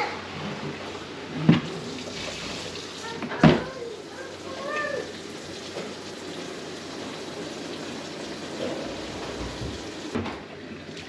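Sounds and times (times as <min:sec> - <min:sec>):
tap water running into bucket: 0:00.8 - 0:11.0.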